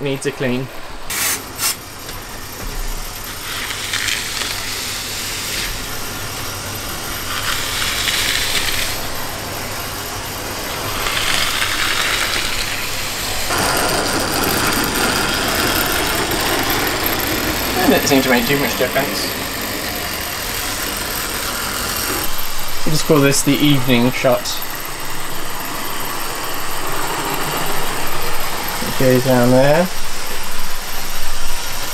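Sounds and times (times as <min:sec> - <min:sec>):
model train motor whirring: 0:03.1 - 0:31.9.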